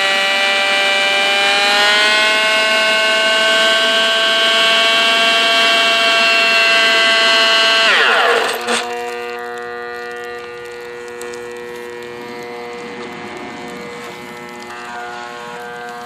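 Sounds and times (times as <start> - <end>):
vacuum cleaner motor whining: 0.0 - 16.0
motor cracking: 1.2 - 16.0.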